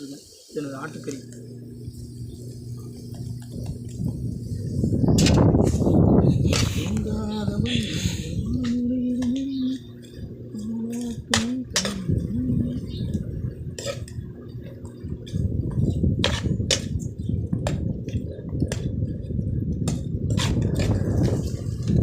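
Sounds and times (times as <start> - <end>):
low rumble: 1.2 - 22.0.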